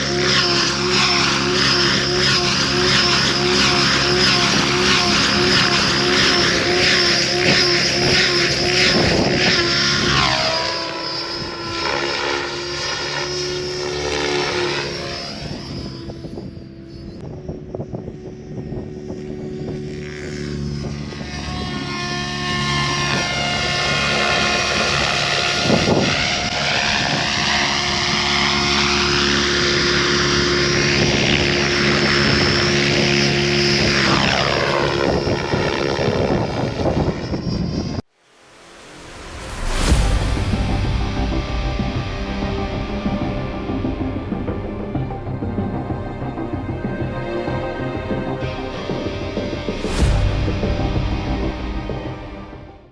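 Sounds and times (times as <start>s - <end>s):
rc helicopter rotor whine: 0.0s - 52.9s.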